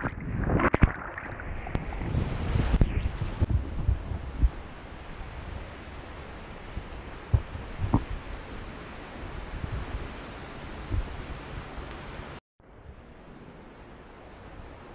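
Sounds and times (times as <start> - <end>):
high thin whine: 0.0 - 12.4
microphone hiss: 1.7 - 14.9.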